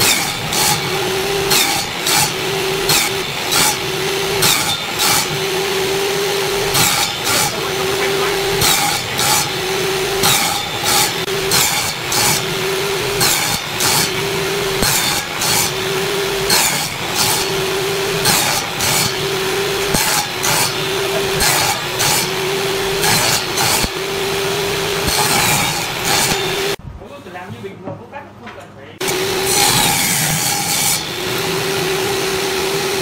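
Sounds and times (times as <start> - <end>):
table saw rasping cuts: 0.0 - 26.8, 29.0 - 33.0
table saw running: 0.0 - 26.8, 29.0 - 33.0.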